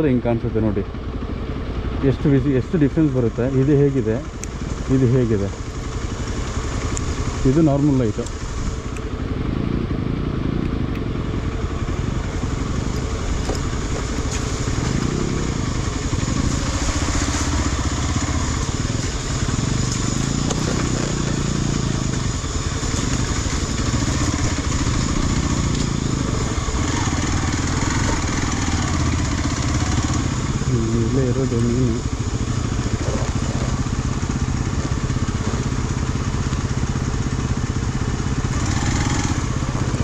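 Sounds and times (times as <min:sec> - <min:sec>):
motorcycle engine running at low speed: 0:00.0 - 0:40.0.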